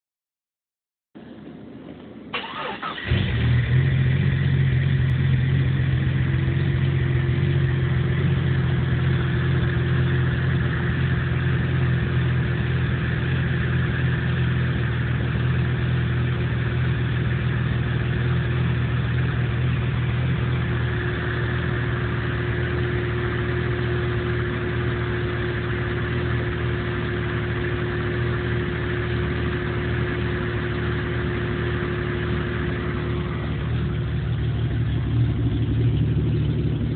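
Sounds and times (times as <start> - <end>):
car engine idling: 2.3 - 36.9.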